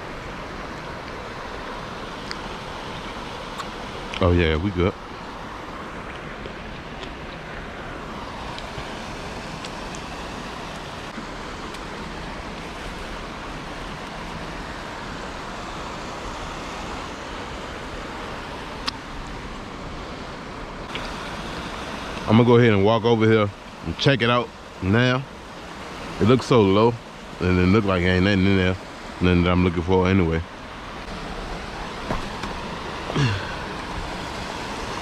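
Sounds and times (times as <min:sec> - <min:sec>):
rushing outdoor background noise: 0:00.0 - 0:35.0.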